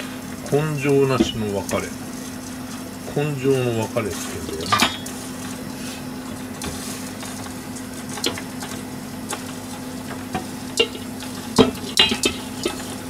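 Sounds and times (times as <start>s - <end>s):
induction hob humming: 0.0s - 13.0s.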